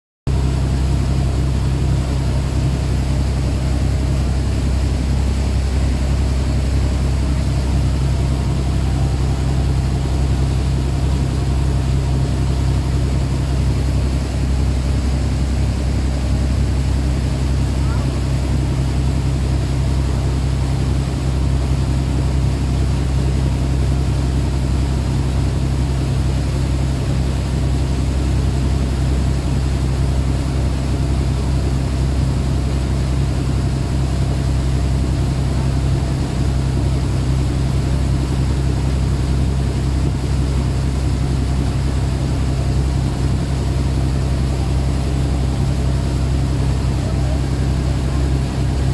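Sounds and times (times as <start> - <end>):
boat engine droning: 0.3 - 48.9
water rushing from wake: 0.3 - 48.9.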